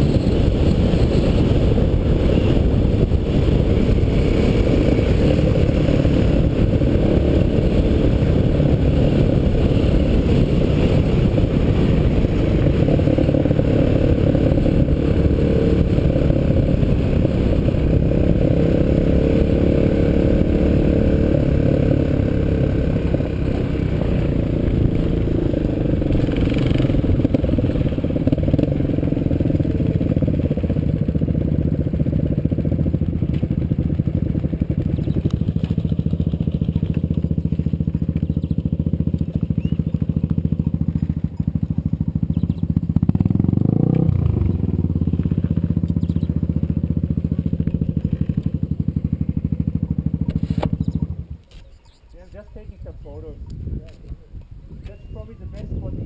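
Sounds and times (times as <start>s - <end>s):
motorcycle engine running: 0.0s - 56.0s
motorcycle clattering on rough track: 0.1s - 52.0s.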